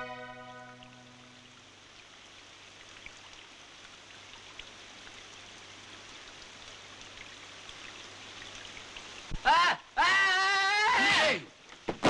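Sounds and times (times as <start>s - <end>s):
rain-like hiss: 0.0s - 12.0s.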